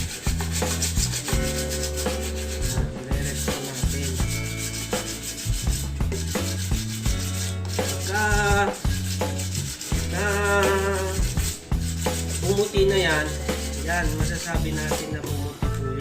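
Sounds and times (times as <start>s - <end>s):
sandpaper rubbing on metal: 0.0s - 15.1s.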